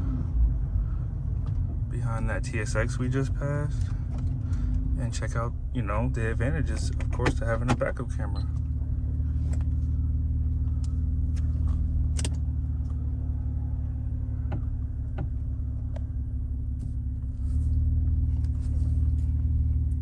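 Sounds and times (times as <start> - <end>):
car engine humming: 0.0 - 20.0.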